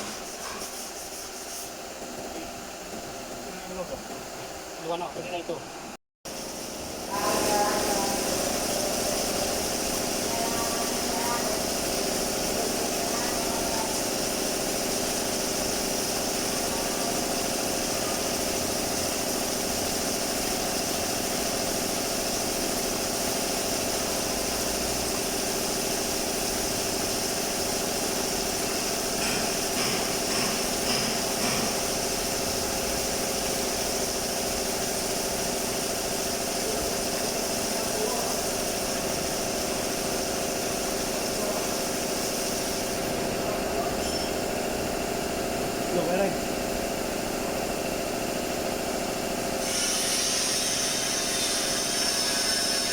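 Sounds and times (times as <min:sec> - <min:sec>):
machine humming and hissing: 0:06.3 - 0:52.9.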